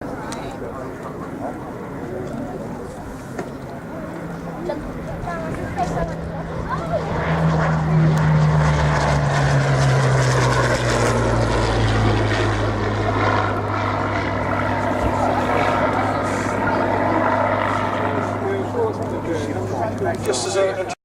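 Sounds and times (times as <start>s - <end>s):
propeller plane engine flying past: 0.0s - 21.0s.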